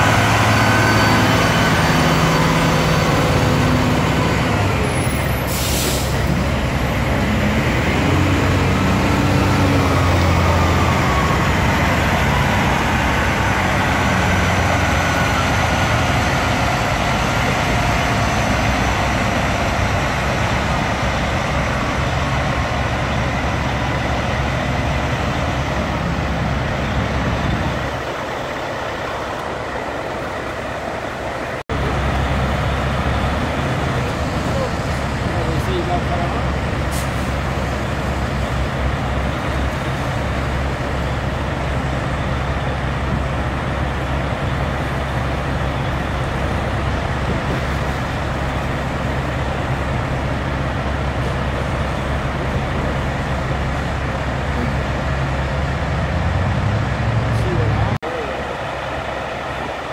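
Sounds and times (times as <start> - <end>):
heavy truck engines running: 0.0 - 59.9.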